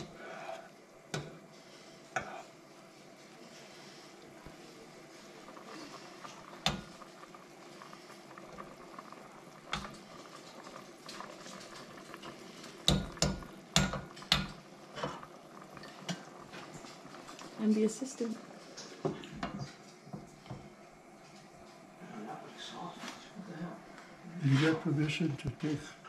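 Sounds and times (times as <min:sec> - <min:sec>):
stew bubbling in a pot: 0:00.0 - 0:26.0.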